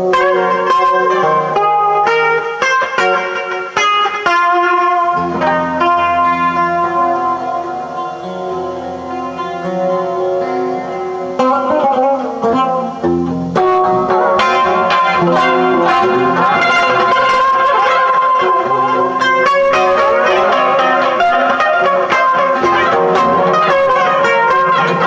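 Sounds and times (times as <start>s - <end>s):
instrumental guitar music: 0.0s - 25.0s.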